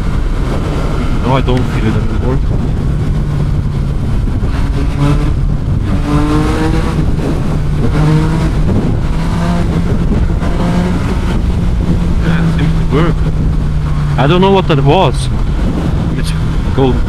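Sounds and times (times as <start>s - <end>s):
motorcycle engine accelerating: 0.0s - 17.0s
wind rush: 0.0s - 17.0s.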